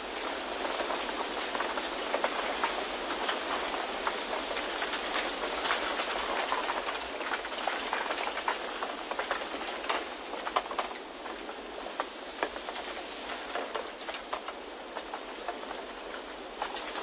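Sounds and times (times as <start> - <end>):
small ticks and crackles: 0.0 - 17.0.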